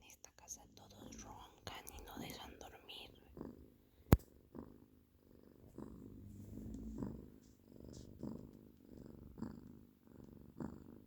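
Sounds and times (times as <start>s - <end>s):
animals snoring faintly: 0.1s - 11.0s.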